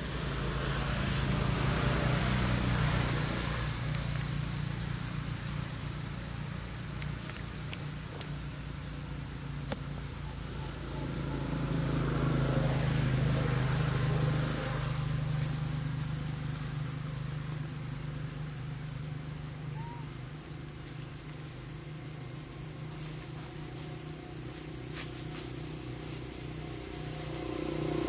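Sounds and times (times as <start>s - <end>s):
vehicle engine passing: 0.0s - 19.6s, 22.2s - 28.0s.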